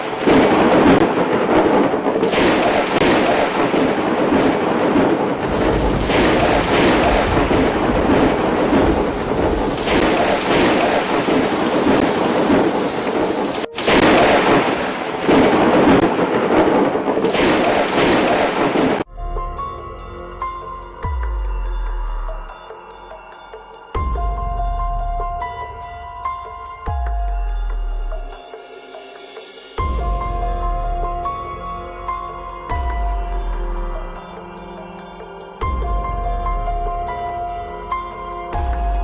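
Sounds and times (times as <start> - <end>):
torrential rain: 0.0 - 39.0.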